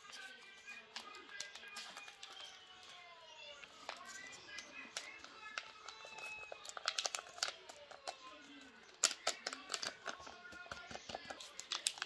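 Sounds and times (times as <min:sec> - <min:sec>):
paper packet crinkling: 0:00.0 - 0:03.0, 0:03.6 - 0:12.0.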